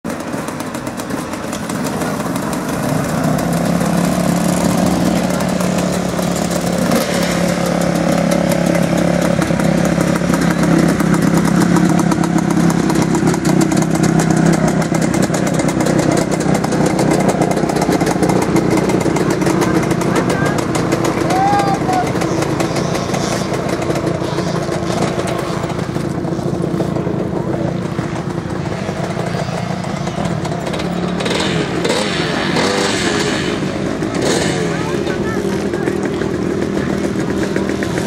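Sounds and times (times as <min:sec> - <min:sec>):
motorcycle engine idling: 0:00.1 - 0:38.0.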